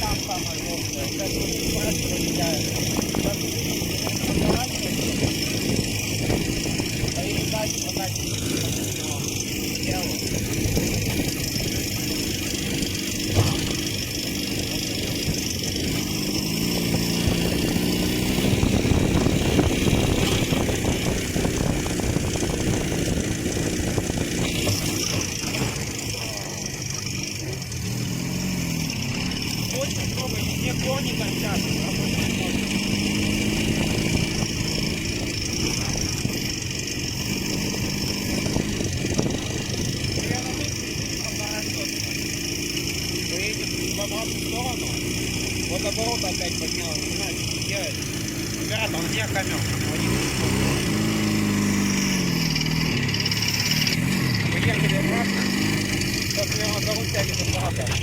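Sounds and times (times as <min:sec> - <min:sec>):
two-stroke motorcycle engine running: 0:00.0 - 0:58.0.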